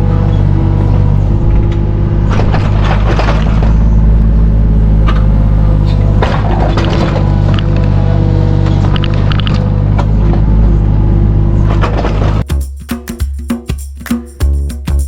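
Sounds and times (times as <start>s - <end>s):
diesel engine running: 0.0s - 12.5s.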